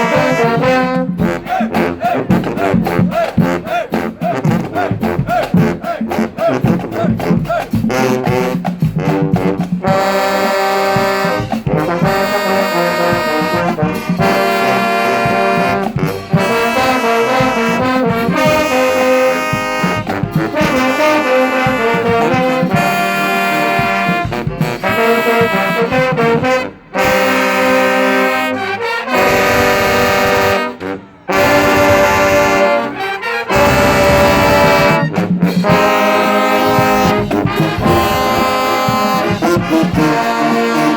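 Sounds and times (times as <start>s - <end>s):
drum strokes: 0.0s - 27.4s, 29.3s - 40.9s
brass chords: 0.0s - 40.9s.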